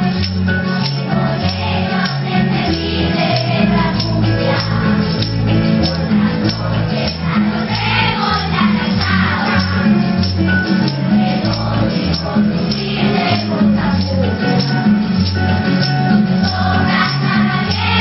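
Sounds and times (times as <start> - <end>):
children's chorus singing: 0.0 - 10.3, 11.0 - 14.9, 16.2 - 18.0
bass line: 0.0 - 18.0
tambourine: 0.0 - 18.0.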